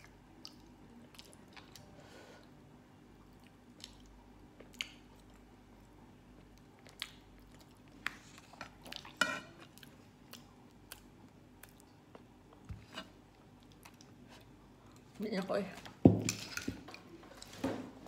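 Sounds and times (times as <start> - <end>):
person chewing food: 0.0 - 2.6, 3.2 - 15.1.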